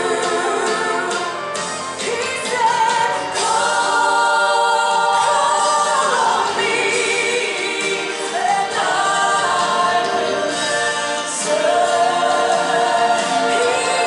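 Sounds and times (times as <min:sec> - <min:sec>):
accompanying music: 0:00.0 - 0:14.0
congregation singing: 0:00.0 - 0:14.0.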